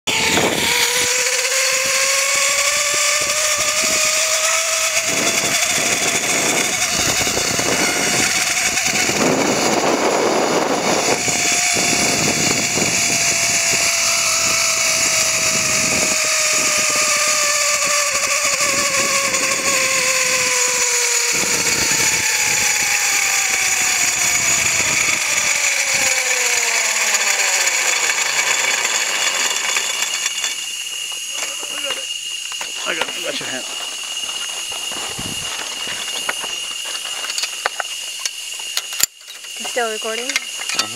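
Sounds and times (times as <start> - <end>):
zipline pulleys whining: 0.0 - 40.9.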